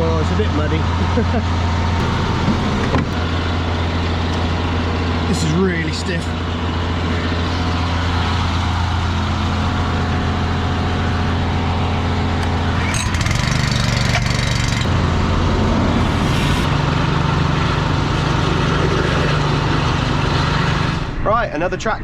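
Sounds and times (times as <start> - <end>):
tractor diesel engine running: 0.0 - 21.1.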